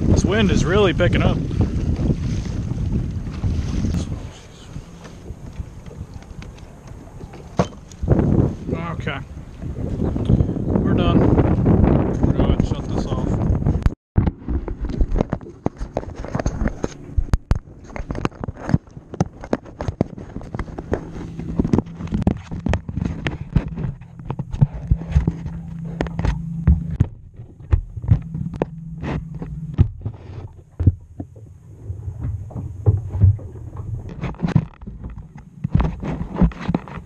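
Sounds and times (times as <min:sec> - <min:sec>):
low steady hum: 0:00.0 - 0:10.7, 0:14.2 - 0:37.0.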